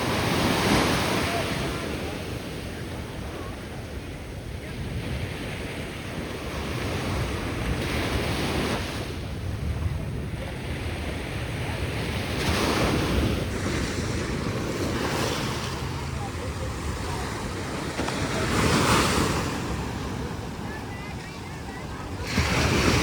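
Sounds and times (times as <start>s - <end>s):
ocean waves washing ashore: 0.0s - 23.0s
wind buffeting microphone: 2.7s - 23.0s.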